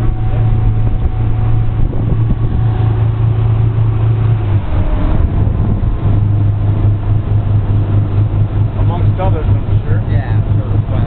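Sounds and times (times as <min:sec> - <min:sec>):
motorboat engine hum: 0:00.0 - 0:11.0
rush of wind and water: 0:00.0 - 0:11.0.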